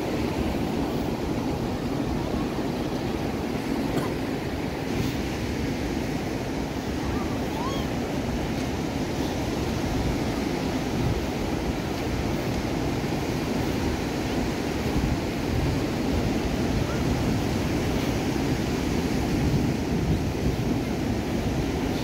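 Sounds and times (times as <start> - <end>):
ocean surf breaking on beach: 0.0 - 22.0
wind on microphone: 0.0 - 22.0.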